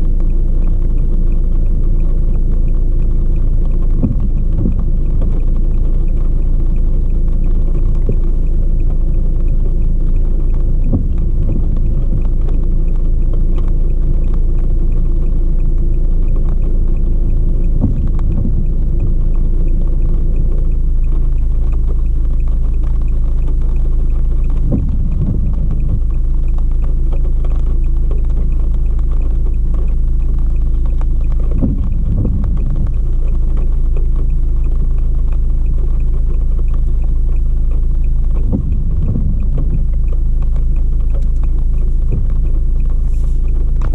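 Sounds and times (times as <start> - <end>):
car rumbling: 0.0 - 43.9.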